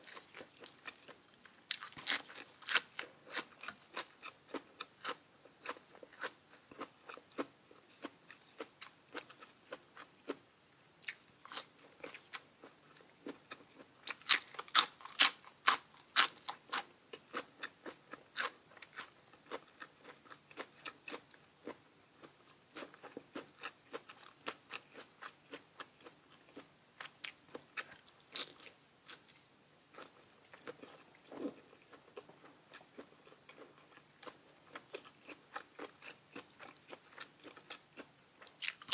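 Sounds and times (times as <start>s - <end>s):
crunchy chewing: 0.0s - 10.1s, 11.0s - 38.9s.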